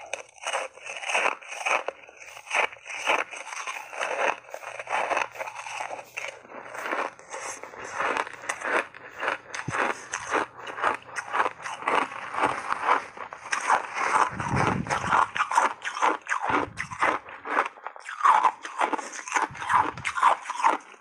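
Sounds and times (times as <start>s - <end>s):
crunching ice chunks: 0.0s - 21.0s.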